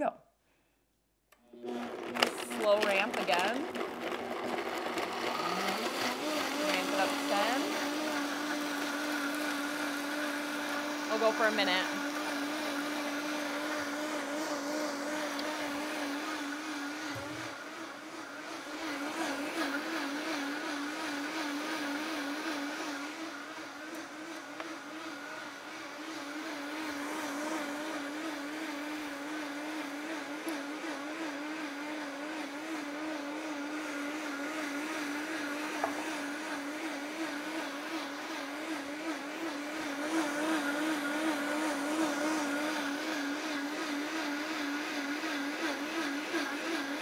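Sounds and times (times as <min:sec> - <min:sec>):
blender motor whine: 0:01.3 - 0:47.0.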